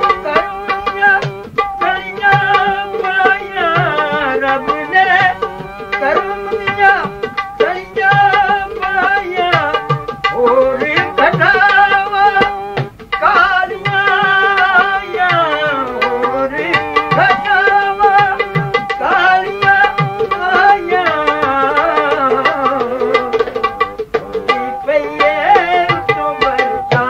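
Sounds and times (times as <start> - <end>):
man singing: 0.0 - 27.0
tabla strokes: 0.0 - 27.0.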